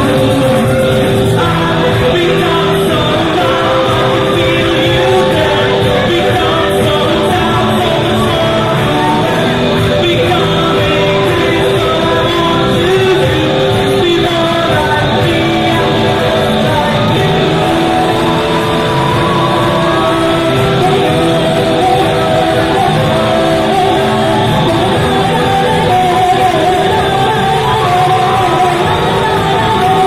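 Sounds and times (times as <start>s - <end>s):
drums: 0.0s - 30.0s
keyboard: 0.0s - 30.0s
voices singing: 0.0s - 30.0s.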